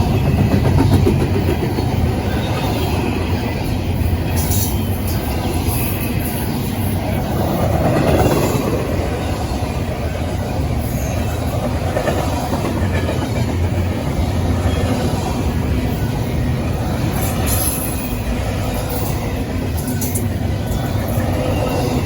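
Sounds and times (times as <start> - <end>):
train rolling on rails: 0.0 - 22.0.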